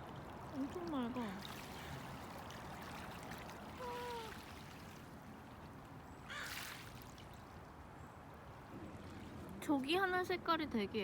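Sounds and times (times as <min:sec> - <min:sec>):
seawater lapping at shore: 0:00.0 - 0:10.5.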